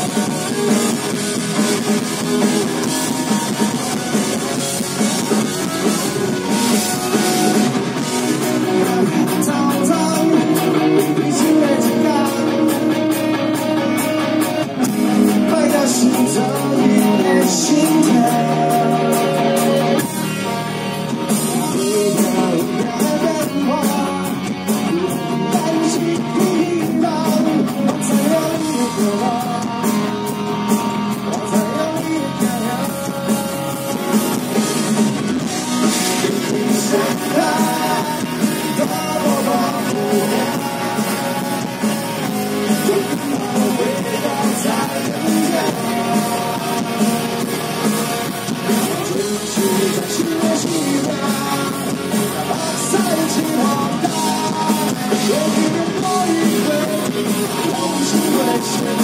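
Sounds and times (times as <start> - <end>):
live rock band playing: 0.0 - 59.0
person singing: 1.8 - 34.8, 35.4 - 59.0.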